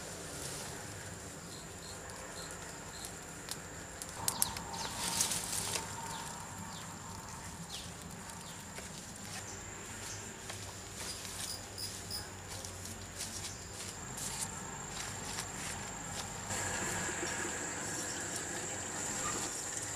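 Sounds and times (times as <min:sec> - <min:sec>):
dry leaves rustling and snapping: 0:00.0 - 0:18.6
light scattered ticks: 0:00.2 - 0:16.4.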